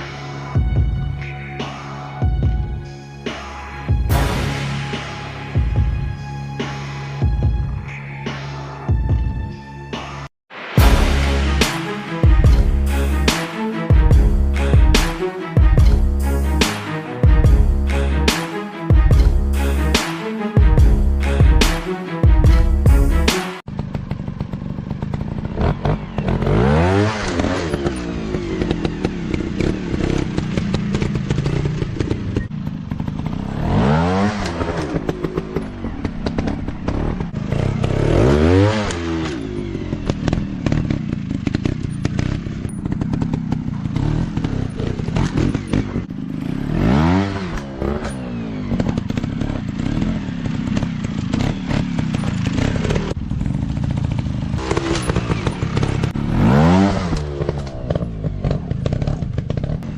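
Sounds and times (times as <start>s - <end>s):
dirt bike engine revving: 10.8s - 59.9s.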